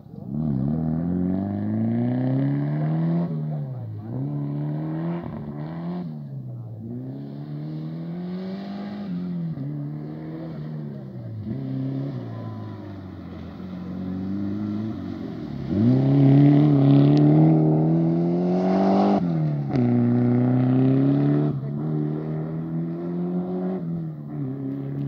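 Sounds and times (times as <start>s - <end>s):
car engine revving hard: 0.3s - 25.0s.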